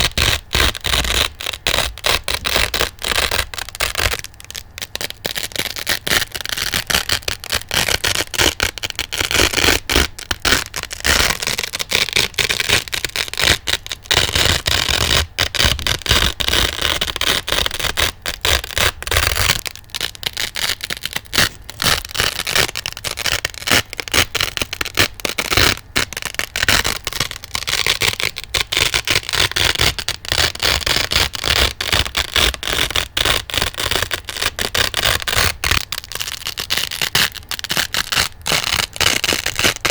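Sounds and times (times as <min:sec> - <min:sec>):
velcro ripping apart: 0:00.0 - 0:39.9.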